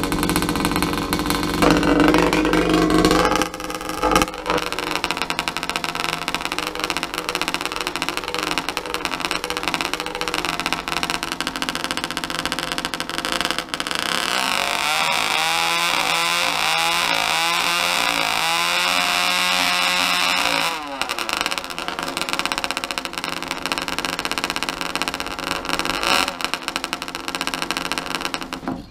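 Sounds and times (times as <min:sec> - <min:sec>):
two-stroke engine revving: 0:00.0 - 0:28.7.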